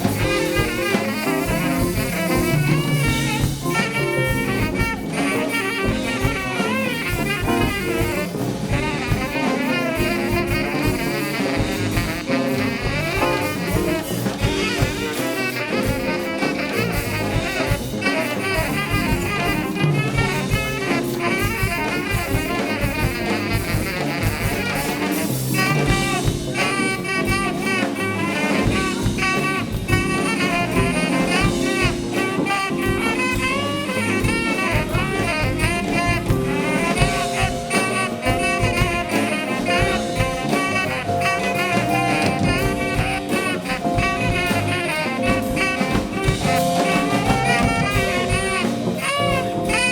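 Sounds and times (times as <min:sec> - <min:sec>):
brass: 0:00.0 - 0:49.9
drum kit: 0:00.0 - 0:49.9
live jazz band playing: 0:00.0 - 0:49.9
saxophone: 0:00.0 - 0:49.9.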